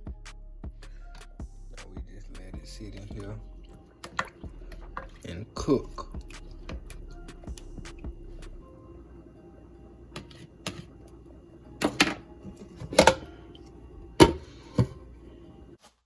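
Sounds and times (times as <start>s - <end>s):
faint steady hum: 1.1s - 15.8s.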